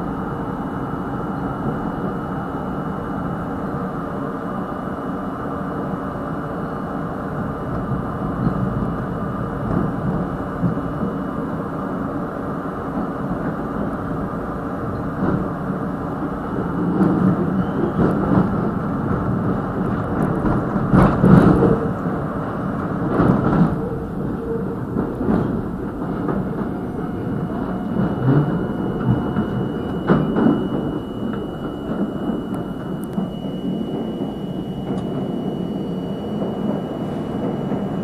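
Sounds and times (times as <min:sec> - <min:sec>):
faint high whine: 0:00.0 - 0:38.0
subway train wheels rumbling on rail: 0:00.0 - 0:38.0.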